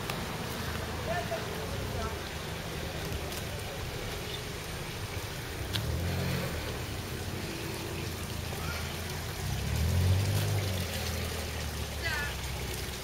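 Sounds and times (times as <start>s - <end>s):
outdoor background hiss: 0.0s - 13.0s
vehicle engine hum: 0.0s - 13.0s.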